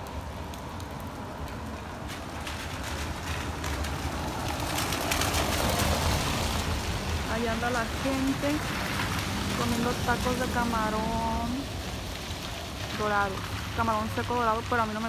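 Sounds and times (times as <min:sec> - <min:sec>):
rain on paving and puddles: 0:00.0 - 0:15.0.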